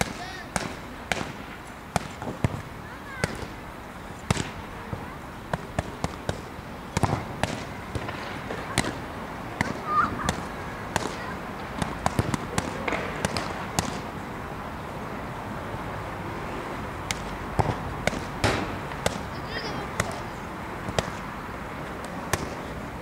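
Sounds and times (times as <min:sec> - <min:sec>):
boxing gloves slapping focus mitts: 0:00.0 - 0:03.6, 0:04.2 - 0:14.2, 0:17.0 - 0:22.8.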